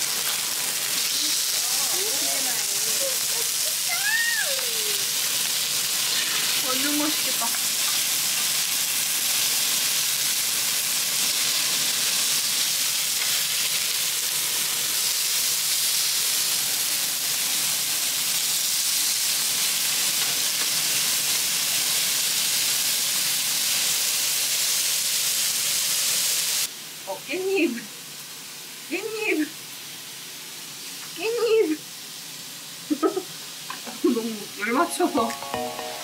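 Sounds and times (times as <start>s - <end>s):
pork sizzling on grill: 0.0s - 36.0s.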